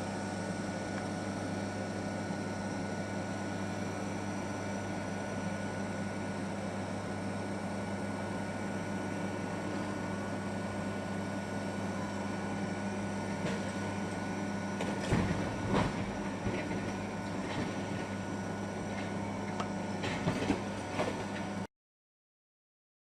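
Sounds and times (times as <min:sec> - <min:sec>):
crusher machine hum: 0:00.0 - 0:21.7.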